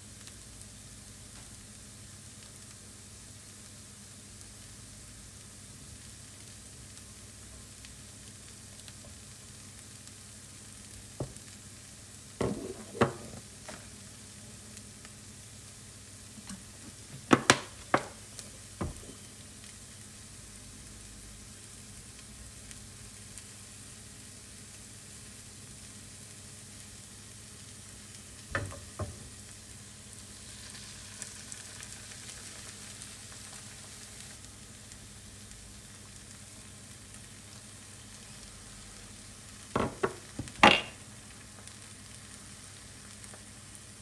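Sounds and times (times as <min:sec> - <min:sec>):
potatoes sizzling in a pan: 0:00.0 - 0:44.0.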